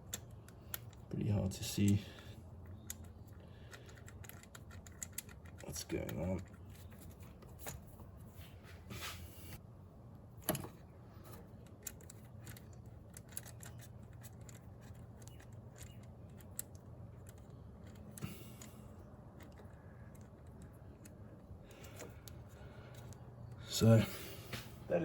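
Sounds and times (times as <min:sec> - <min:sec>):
clicks and rattles of engine parts: 0:00.0 - 0:07.8, 0:10.4 - 0:24.0
faint low hum: 0:00.0 - 0:25.0.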